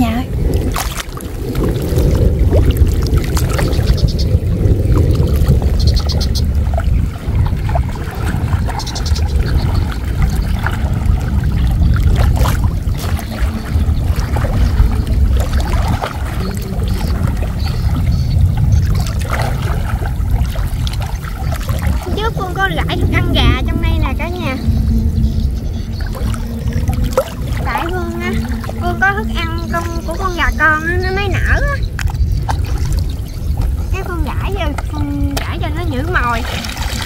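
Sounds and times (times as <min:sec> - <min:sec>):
person wading through water: 0:00.0 - 0:37.0
steady low rumble: 0:00.0 - 0:37.0.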